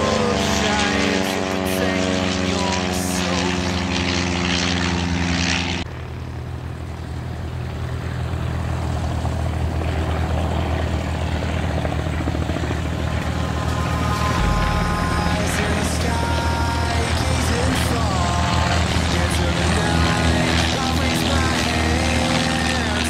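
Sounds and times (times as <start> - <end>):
propeller aircraft flying overhead: 0.0 - 23.0
propeller plane taking off: 0.0 - 23.0.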